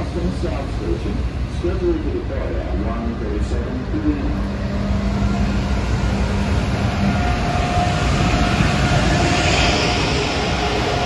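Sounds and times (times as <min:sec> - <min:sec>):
electric locomotive hum and whine: 0:00.0 - 0:11.0
passing train hiss: 0:00.0 - 0:11.0.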